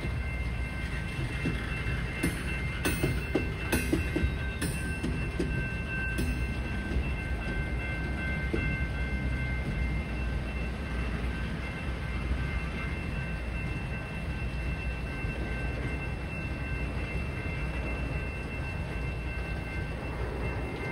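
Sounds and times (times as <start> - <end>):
train wheels rumbling on rail: 0.0 - 20.9.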